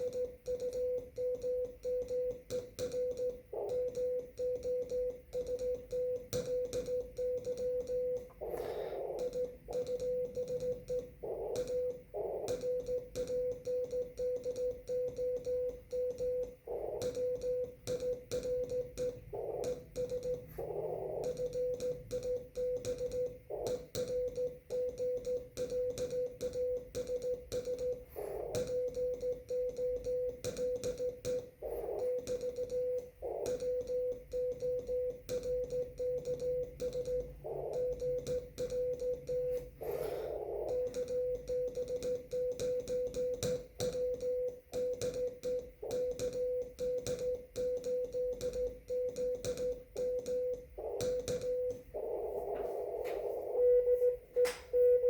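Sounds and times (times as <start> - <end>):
keying clicks: 0.0 - 53.6
morse code tone: 0.0 - 55.0.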